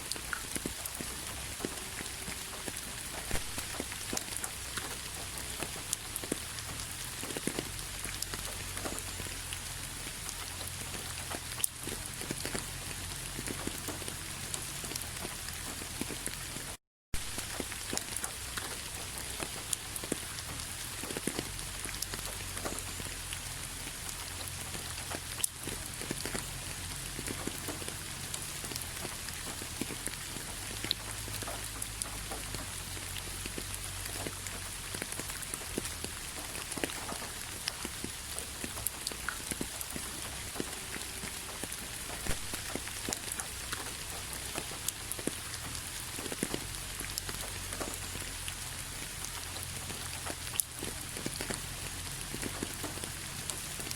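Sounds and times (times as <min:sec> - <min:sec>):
rain falling steadily: 0:00.0 - 0:53.9
raindrops tapping on a surface: 0:00.0 - 0:53.9.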